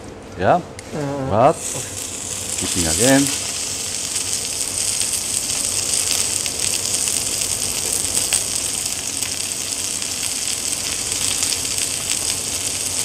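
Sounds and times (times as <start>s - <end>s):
steak sizzling on a grill pan: 1.6s - 13.0s.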